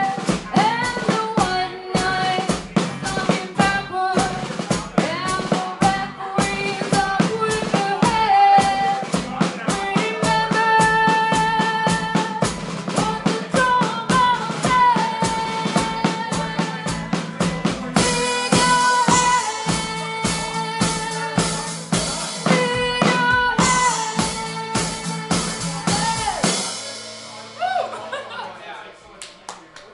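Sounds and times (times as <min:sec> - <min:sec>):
woman singing: 0:00.0 - 0:26.7
strummed acoustic guitar: 0:00.0 - 0:27.6
drum kit beat: 0:00.0 - 0:28.5.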